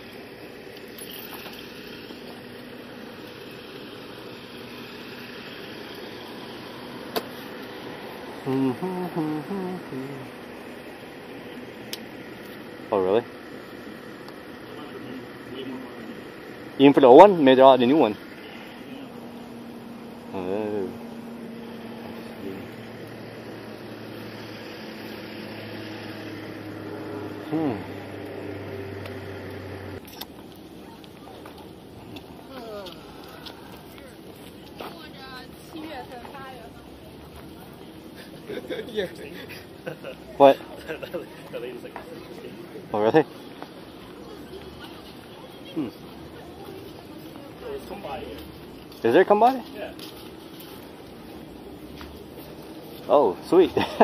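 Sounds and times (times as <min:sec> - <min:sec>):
faint vehicle engine idling: 0:00.0 - 0:54.0.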